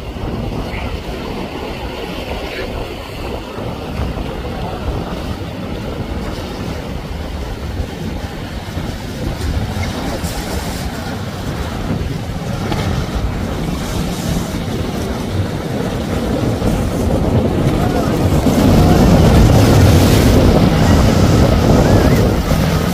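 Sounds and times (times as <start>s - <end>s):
boat spray: 0.0s - 22.9s
outboard boat engine running: 0.0s - 22.9s
waves: 0.0s - 22.9s
wind buffeting the microphone: 0.0s - 22.9s.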